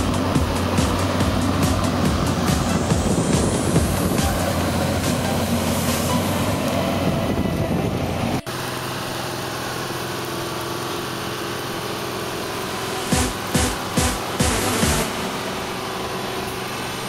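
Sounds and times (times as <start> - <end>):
disc harrow working stubble: 0.0 - 17.0
tractor engine drone: 0.0 - 17.0
tractor engine under load: 0.0 - 17.0.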